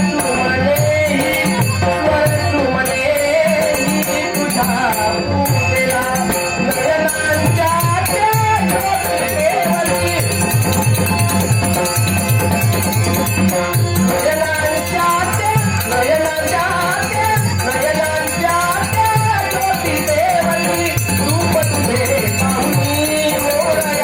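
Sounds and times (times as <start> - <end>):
hand drum beats: 0.0 - 24.0
jingling rattling percussion: 0.0 - 24.0.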